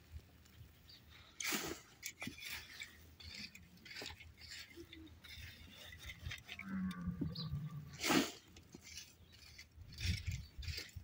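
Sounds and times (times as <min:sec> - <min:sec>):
rake scraping over sand: 0:01.3 - 0:11.0.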